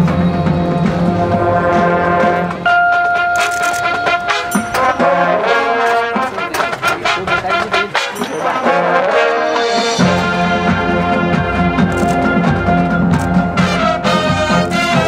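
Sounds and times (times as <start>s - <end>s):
marching band brass: 0.0s - 15.0s
percussion strikes: 0.0s - 15.0s
trombones: 0.0s - 15.0s.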